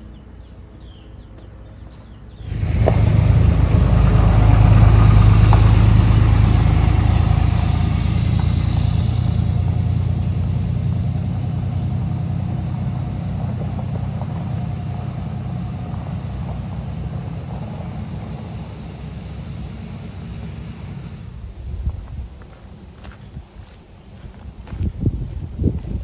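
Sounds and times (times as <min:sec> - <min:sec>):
vehicle engine low rumble: 0:00.2 - 0:26.0.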